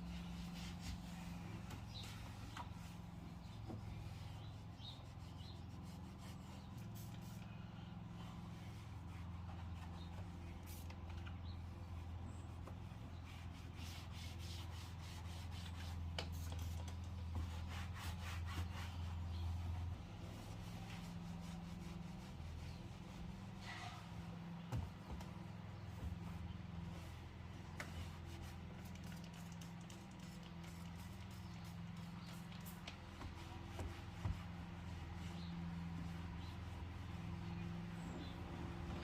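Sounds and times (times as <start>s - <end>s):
rubbing and scrubbing strokes: 0.0s - 10.9s, 12.8s - 39.0s.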